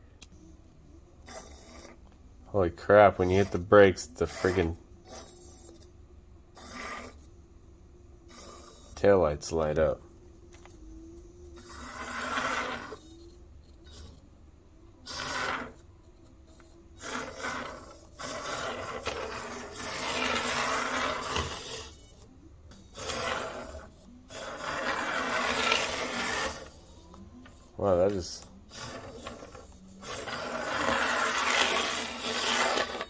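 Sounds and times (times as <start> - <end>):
toy car tyres rasping: 1.2 - 2.2, 3.0 - 7.3, 8.2 - 9.2, 11.4 - 14.3, 15.0 - 33.0.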